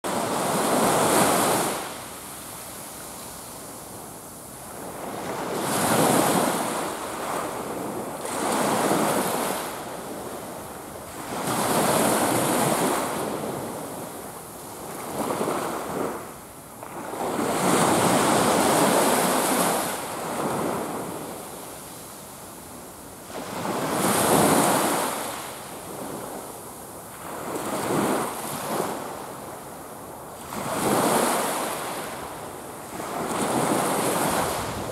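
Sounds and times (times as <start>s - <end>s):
small waves breaking on shore: 0.1s - 34.9s.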